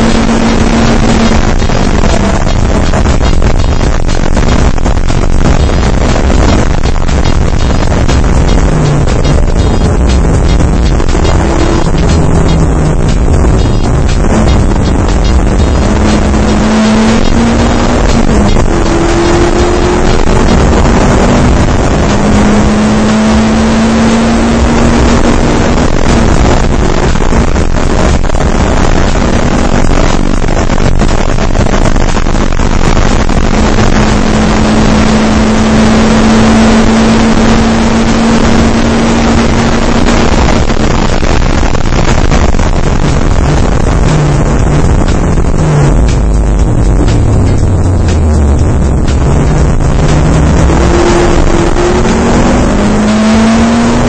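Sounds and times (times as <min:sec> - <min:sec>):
race car engine at high revs: 0:00.0 - 0:54.0
wind and road noise: 0:00.0 - 0:54.0.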